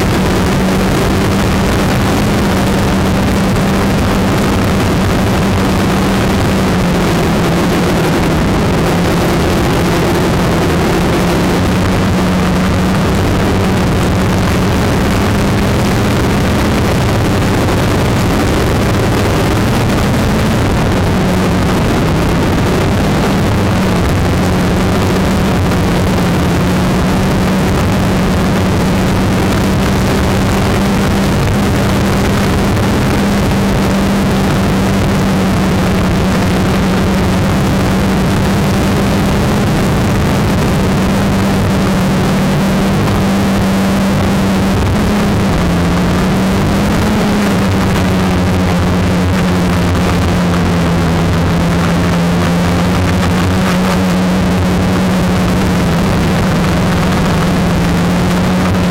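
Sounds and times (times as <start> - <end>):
rushing noise: 0.0 - 58.9.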